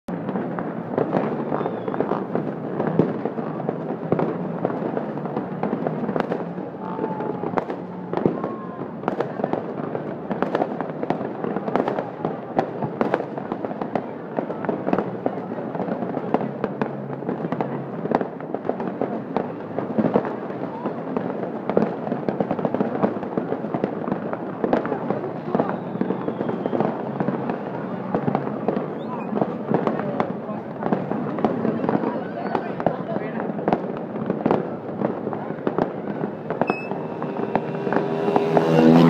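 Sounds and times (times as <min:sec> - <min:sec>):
fireworks bangs and crackling: 0:00.1 - 0:39.0.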